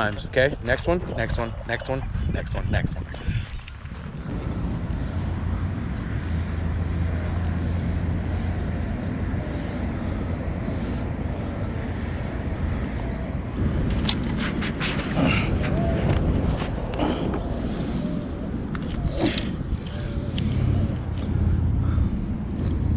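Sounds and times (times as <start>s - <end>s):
low hum: 0.0s - 22.9s
outdoor rumble: 0.0s - 22.9s
wind noise on microphone: 0.0s - 22.9s.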